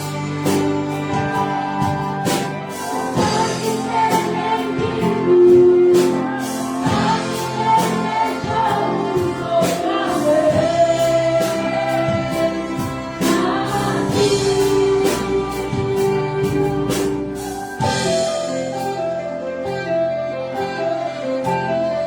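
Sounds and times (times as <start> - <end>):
singers in worship song: 0.0 - 18.4
orchestra playing: 0.0 - 22.0.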